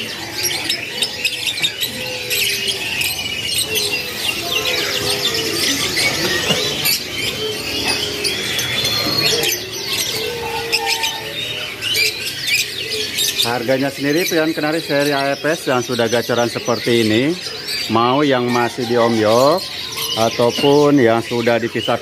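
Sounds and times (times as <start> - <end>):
canaries chirping and singing: 0.0 - 22.0.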